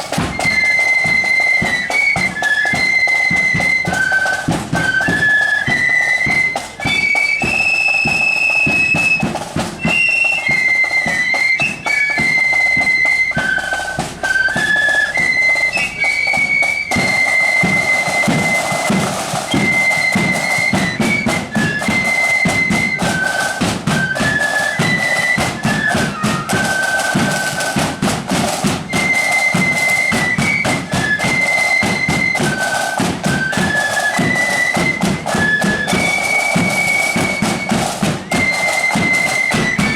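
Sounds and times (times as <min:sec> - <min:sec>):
flutes playing melody: 0:00.0 - 0:39.9
snare and bass drums: 0:00.0 - 0:39.9.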